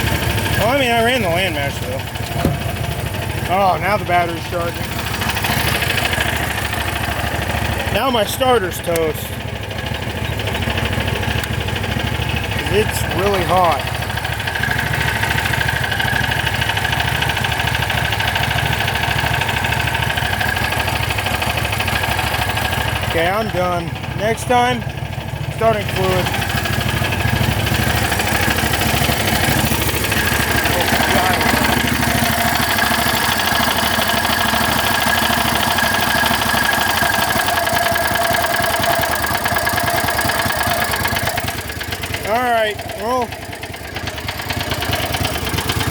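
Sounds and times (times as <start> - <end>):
small engine idling: 0.0 - 45.9.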